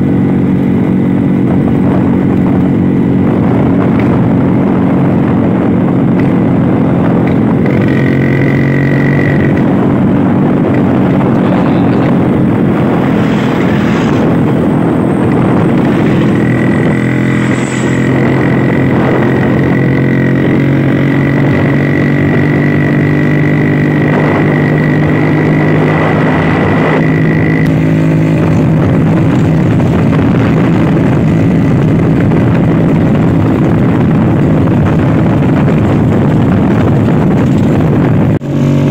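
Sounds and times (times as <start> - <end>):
high steady whine: 0.0 - 38.9
road noise: 0.0 - 38.9
scooter engine running: 0.0 - 38.9.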